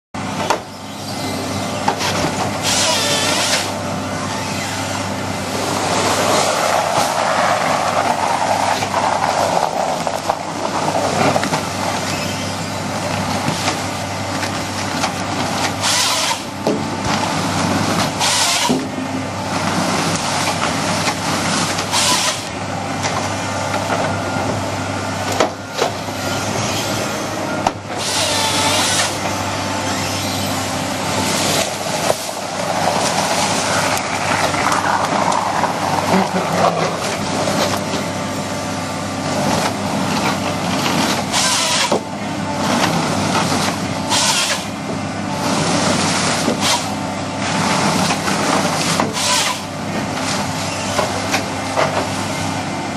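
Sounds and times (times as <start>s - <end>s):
heavy machinery engine running: 0.2s - 52.9s.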